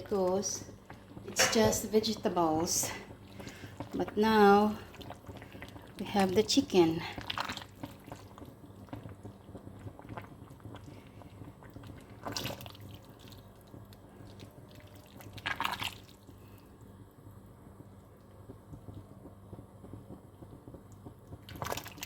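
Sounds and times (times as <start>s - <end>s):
liquid splashing in a pot: 0.1s - 16.9s, 20.8s - 22.0s.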